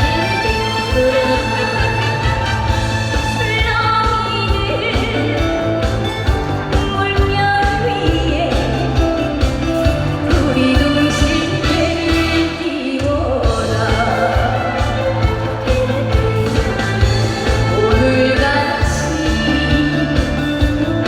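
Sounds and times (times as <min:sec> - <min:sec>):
backing track with steady beat: 0:00.0 - 0:21.0
woman singing: 0:00.0 - 0:21.0.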